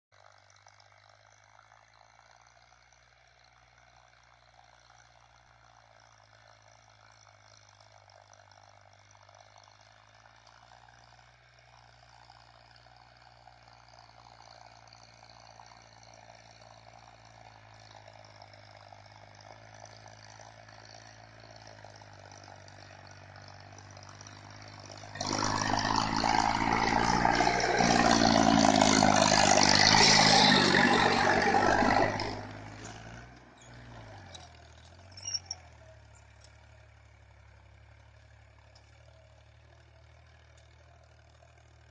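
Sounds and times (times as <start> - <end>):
tractor engine running: 0.2 - 41.9.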